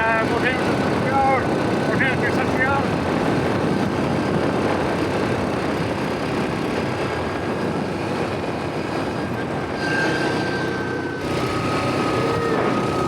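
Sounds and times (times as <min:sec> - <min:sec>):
atv engine running: 0:00.0 - 0:13.0
road noise: 0:00.0 - 0:13.0.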